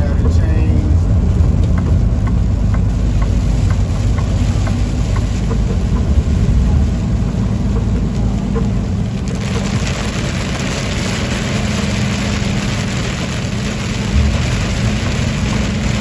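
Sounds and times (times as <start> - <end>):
hail and rain on truck cab: 0.0 - 16.0
truck engine hum: 0.0 - 16.0.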